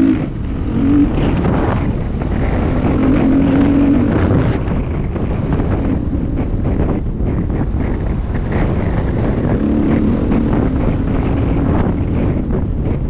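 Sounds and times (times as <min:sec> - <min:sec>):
dirt bike engine: 0:00.0 - 0:13.0
wind buffeting microphone: 0:00.0 - 0:13.0.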